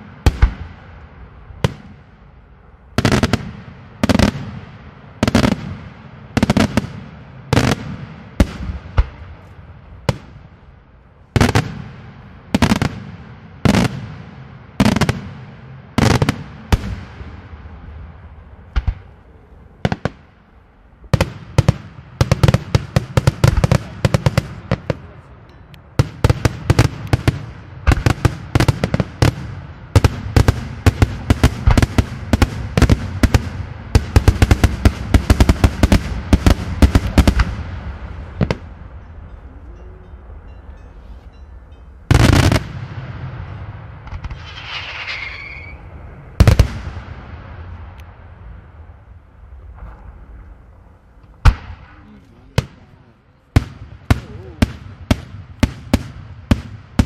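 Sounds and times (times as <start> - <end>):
fireworks bangs: 0.0 - 39.5, 42.1 - 57.0.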